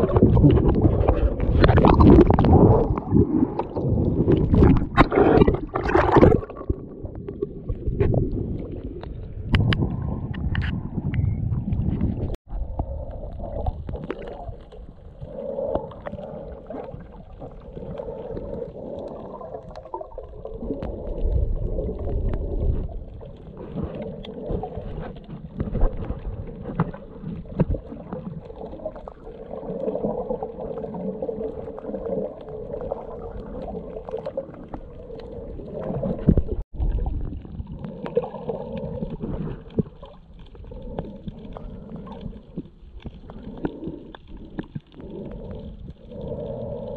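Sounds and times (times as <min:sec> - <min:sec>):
underwater rumbling and sloshing: 0:00.0 - 0:46.9.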